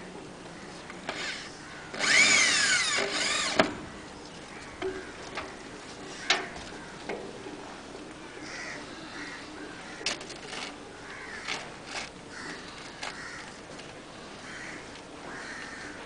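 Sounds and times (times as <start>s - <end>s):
birds calling: 0.5s - 16.0s.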